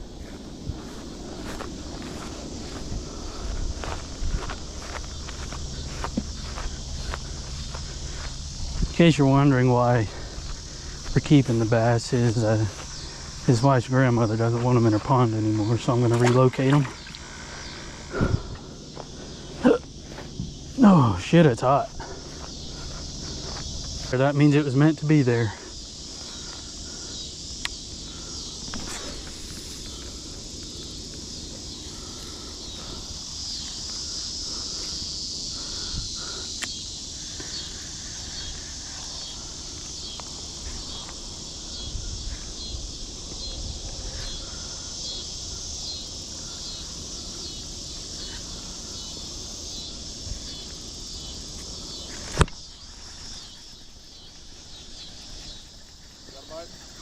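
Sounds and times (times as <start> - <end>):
insect chorus buzzing: 0.0 - 57.0.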